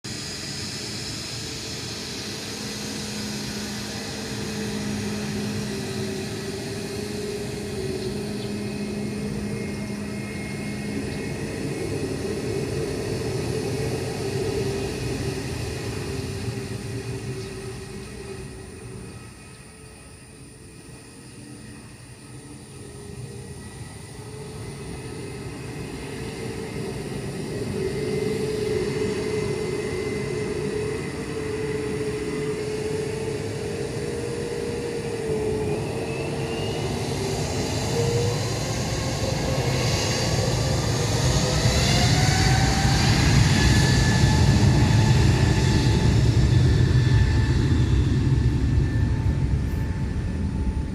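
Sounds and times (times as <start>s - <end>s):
jet engine heavy rumble: 0.0s - 50.9s
jet engines whine: 0.0s - 50.9s.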